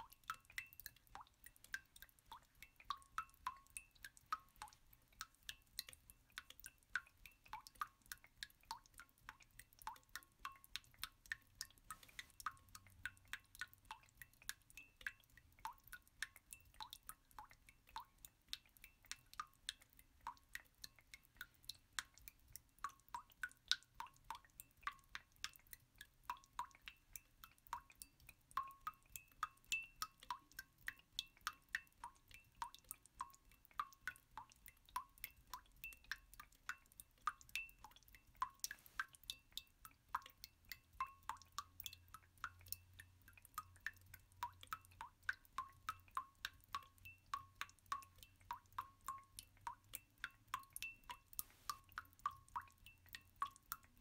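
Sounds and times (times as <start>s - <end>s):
water drop plinks: 0.0s - 54.0s.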